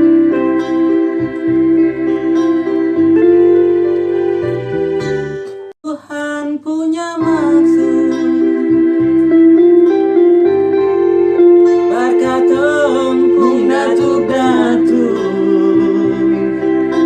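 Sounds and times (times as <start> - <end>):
bending wavering melody line: 0.0 - 5.5, 7.3 - 17.0
bass: 0.0 - 5.7, 7.2 - 17.0
guitar: 0.0 - 17.0.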